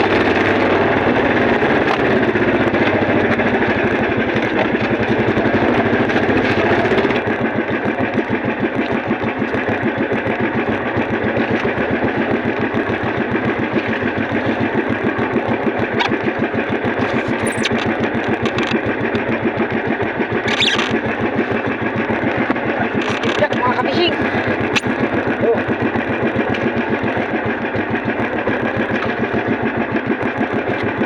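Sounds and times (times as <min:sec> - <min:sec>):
small engine puttering: 0:00.0 - 0:31.0.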